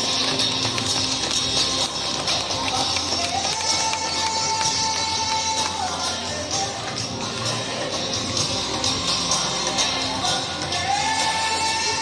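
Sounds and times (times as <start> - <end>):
recorded music over loudspeakers: 0.0 - 12.0.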